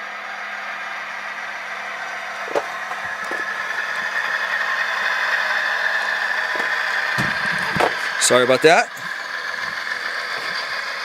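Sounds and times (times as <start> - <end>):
model locomotive engine sound: 0.0 - 11.0.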